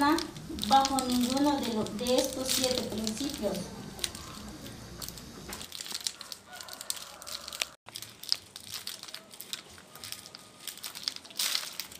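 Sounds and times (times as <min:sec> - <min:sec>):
crackling and crinkling clicks: 0:00.0 - 0:11.9.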